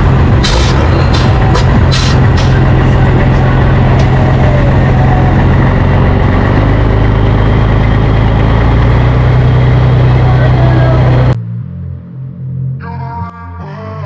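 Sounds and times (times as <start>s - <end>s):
truck diesel engine idling: 0.0s - 11.4s.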